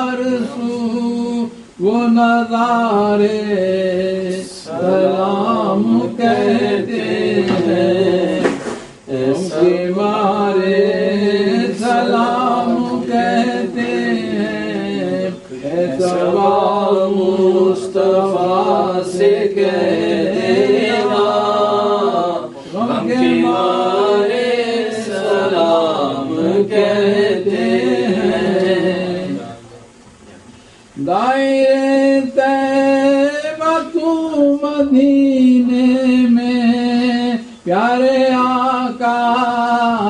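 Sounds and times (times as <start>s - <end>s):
men singing devotional song: 0.0s - 29.7s, 30.8s - 40.0s.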